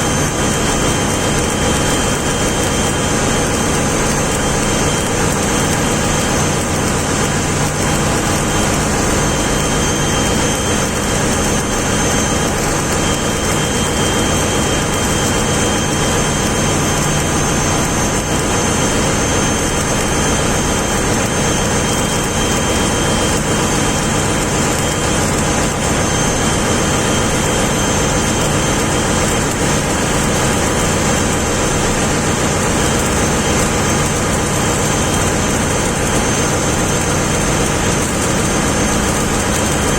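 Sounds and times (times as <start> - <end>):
ship machinery drone: 0.0 - 39.9.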